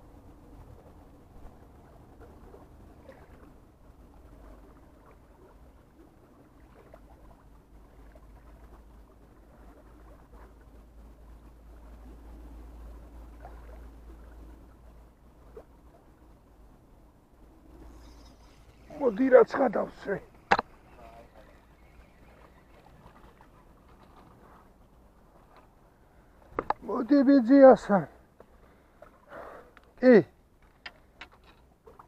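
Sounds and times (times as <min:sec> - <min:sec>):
low seashore rumble: 0:00.0 - 0:31.2.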